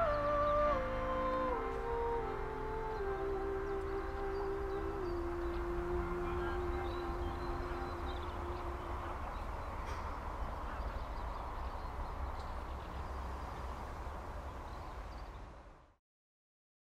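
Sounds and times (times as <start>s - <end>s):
background hiss and low rumble: 0.0s - 16.0s.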